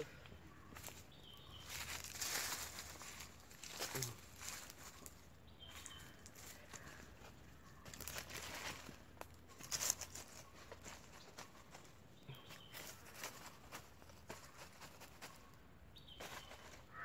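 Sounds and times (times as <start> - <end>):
leaves and twigs crackling in fire: 0.7 - 15.6.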